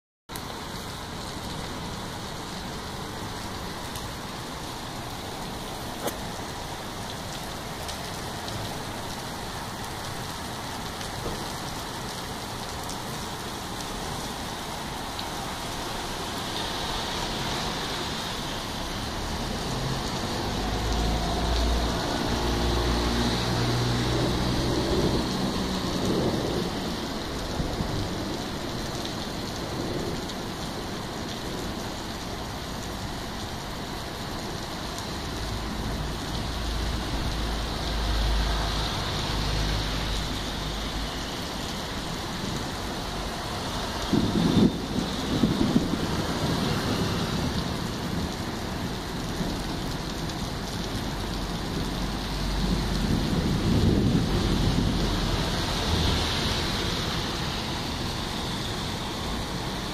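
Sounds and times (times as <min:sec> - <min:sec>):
rain falling on street: 0:00.3 - 0:59.9.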